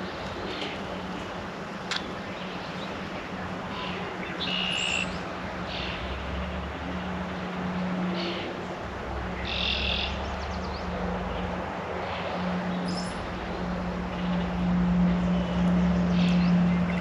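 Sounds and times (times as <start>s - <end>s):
low hum and hiss: 0.0s - 17.0s
songbirds calling: 0.0s - 17.0s.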